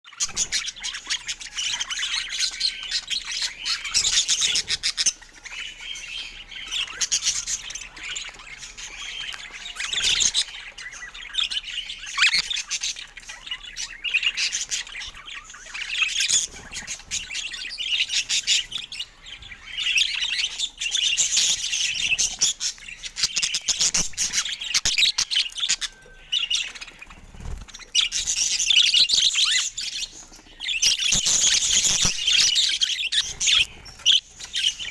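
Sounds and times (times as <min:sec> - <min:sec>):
budgerigars chirping: 0:00.1 - 0:34.9.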